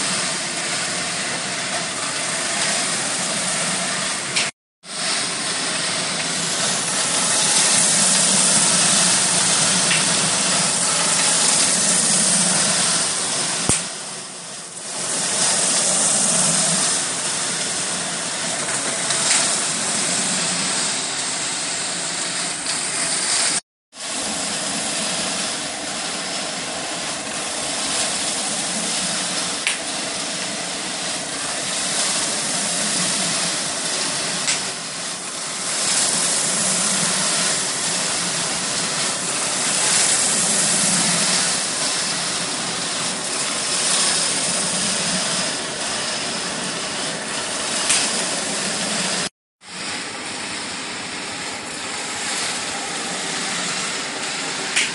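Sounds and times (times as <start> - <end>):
coffee beans tumbling in a drum: 0.0 - 54.9
gas burner hissing: 0.0 - 54.9.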